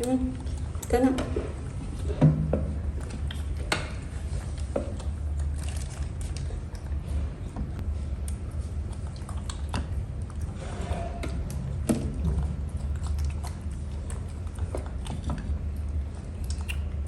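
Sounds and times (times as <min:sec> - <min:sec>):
monkey chewing grapes: 0:00.0 - 0:17.0
steady low hum: 0:00.0 - 0:17.0.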